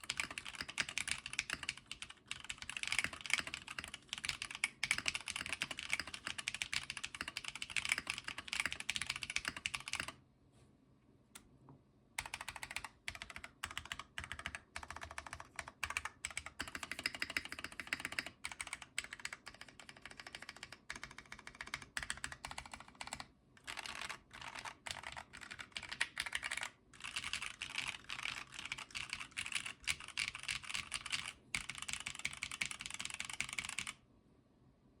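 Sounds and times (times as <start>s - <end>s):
mechanical keyboard typing: 0.0s - 10.2s, 12.2s - 34.0s.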